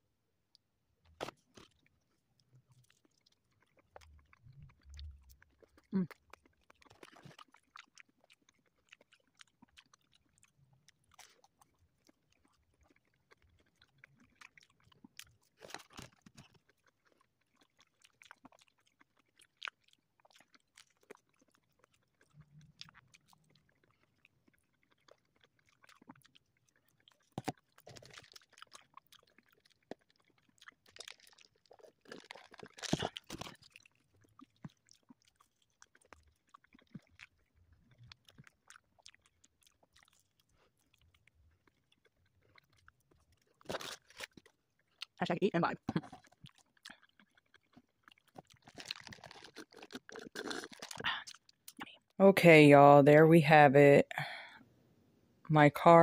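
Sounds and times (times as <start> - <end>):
crunchy chewing: 1.1 - 45.2, 45.8 - 52.2.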